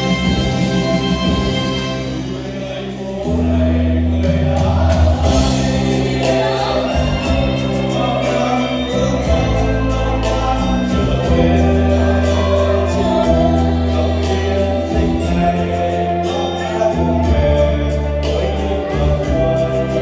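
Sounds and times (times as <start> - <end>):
instrumental accompaniment with beat: 0.0 - 20.0
mixed choir singing: 0.0 - 20.0.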